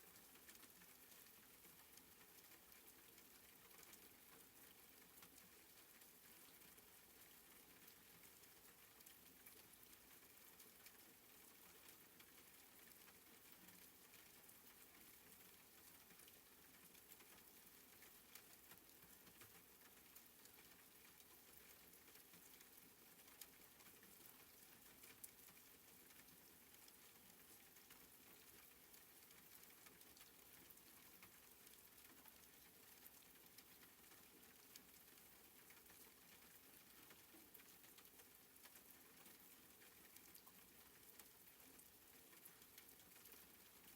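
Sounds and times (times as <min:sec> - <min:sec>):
soft rain pattering: 0:00.0 - 0:43.9.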